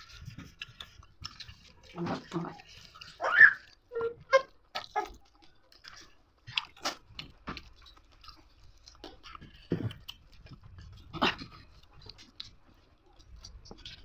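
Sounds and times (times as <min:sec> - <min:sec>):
person chewing and crunching: 0:00.0 - 0:14.0.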